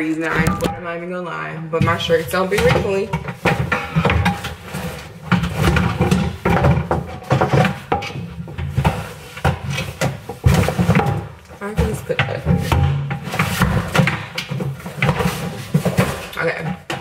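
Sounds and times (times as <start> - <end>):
household items knocking and thumping: 0.0 - 1.0, 1.8 - 17.0
rustling of items being handled: 1.8 - 17.0.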